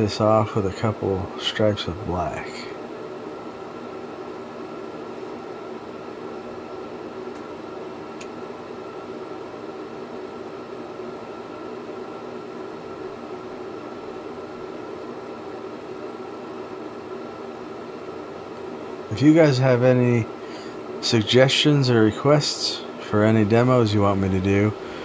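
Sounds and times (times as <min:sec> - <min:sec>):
ventilation hum: 0:00.0 - 0:25.0.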